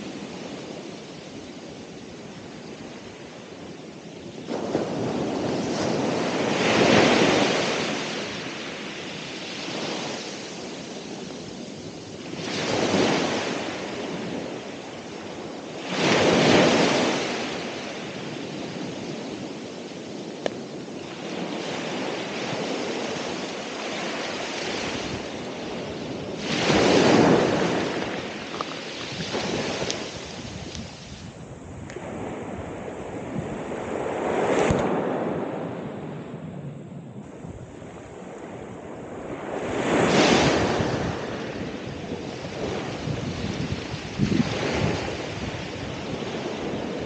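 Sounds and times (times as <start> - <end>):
ocean waves breaking on shore: 0.0 - 47.0.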